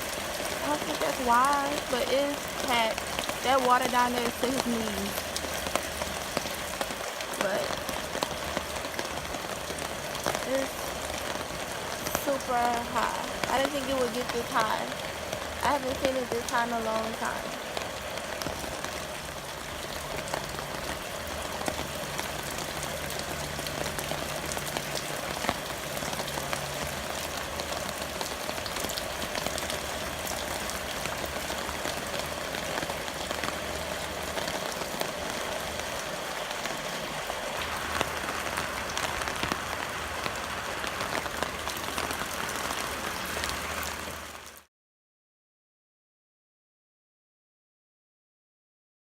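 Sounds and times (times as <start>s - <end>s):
heavy rain: 0.0s - 44.7s.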